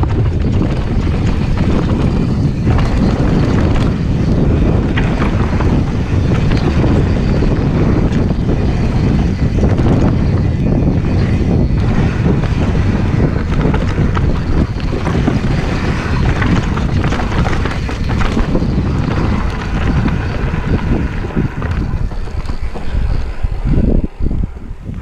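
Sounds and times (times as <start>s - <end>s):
mountain bike rumbling and rattling: 0.0s - 25.0s
wind buffeting microphone: 0.0s - 25.0s.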